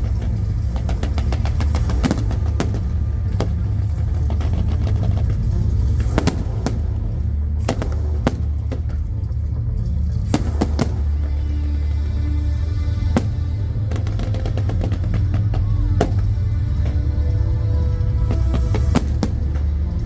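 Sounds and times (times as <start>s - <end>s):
fireworks bangs and cracks: 0.0s - 17.3s, 18.0s - 20.0s.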